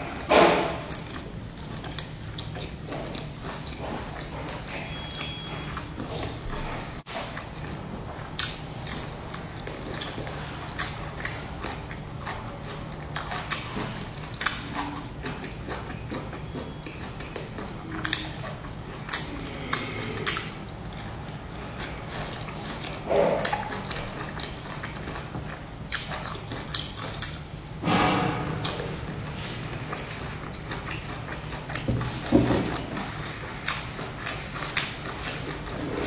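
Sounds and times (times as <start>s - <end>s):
crunching and chewing pastry: 0.0s - 36.0s
steady low hum: 0.0s - 36.0s.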